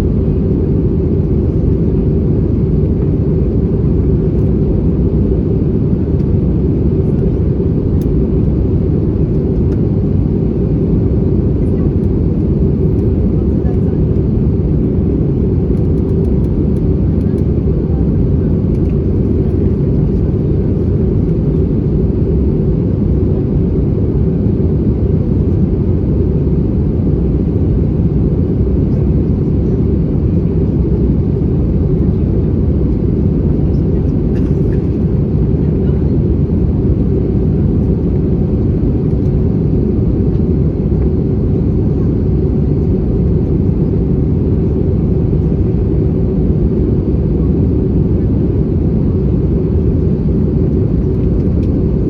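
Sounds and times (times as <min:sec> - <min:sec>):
airplane cabin drone: 0:00.0 - 0:52.0.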